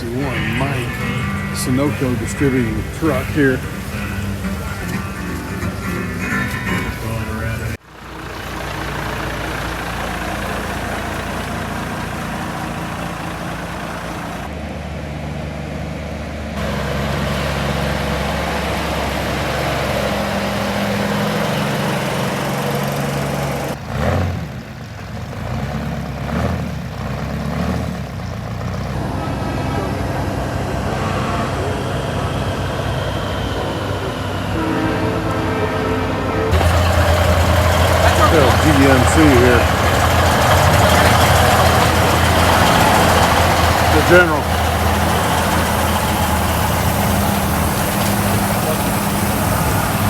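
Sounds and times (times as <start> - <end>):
truck diesel engines idling: 0.0 - 50.0.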